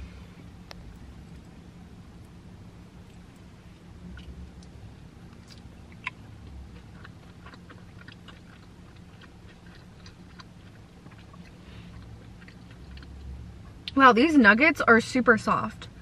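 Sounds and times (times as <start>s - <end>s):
soft crunchy chewing: 0.6s - 14.0s.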